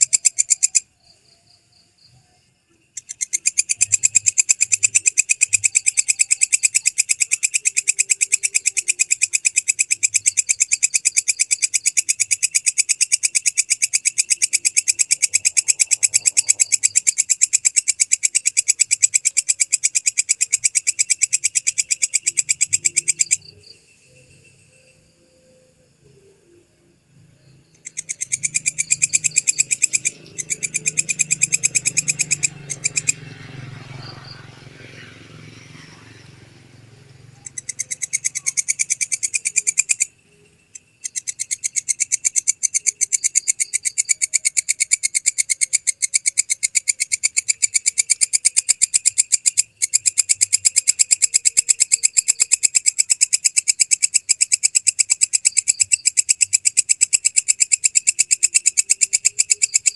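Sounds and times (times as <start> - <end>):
katydid stridulating: 0.0 - 59.9.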